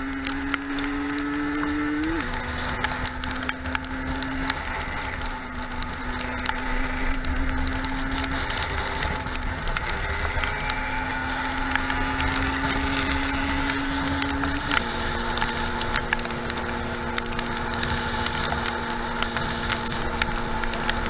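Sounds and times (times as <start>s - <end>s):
constant crackling: 0.0s - 21.0s
dirt bike engine running: 0.0s - 21.0s.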